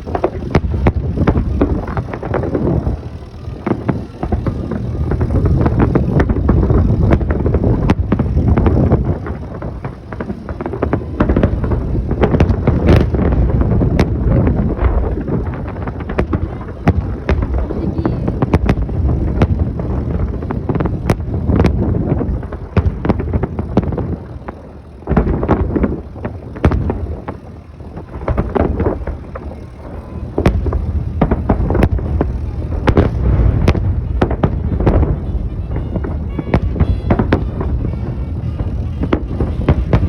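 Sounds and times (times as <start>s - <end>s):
constant low rumble: 0.0s - 40.0s
fireworks bangs and pops: 0.0s - 40.0s
wind on the microphone: 0.0s - 40.0s.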